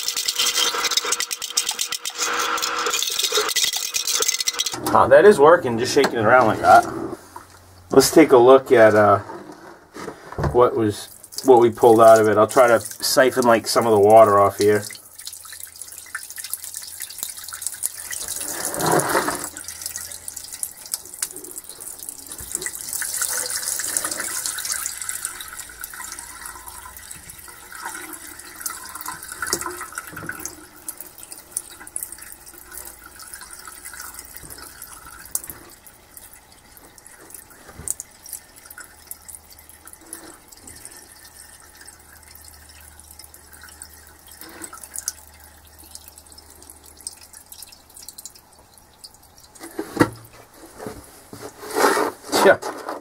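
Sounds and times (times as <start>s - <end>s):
water pouring into a sink: 0.0s - 4.8s, 10.6s - 50.2s.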